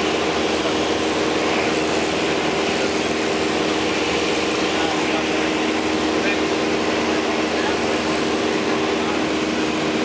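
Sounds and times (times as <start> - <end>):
airplane engine and propeller drone: 0.0 - 10.0.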